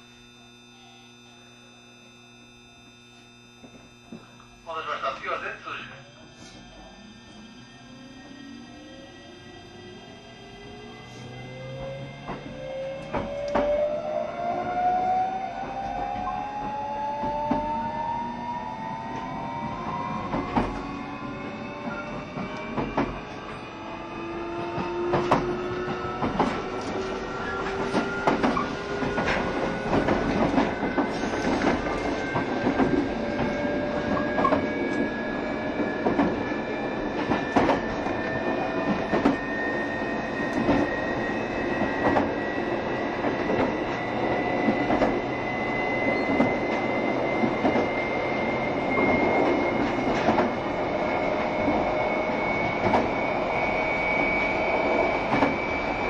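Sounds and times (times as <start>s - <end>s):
electric train motor whine: 0.0s - 56.0s.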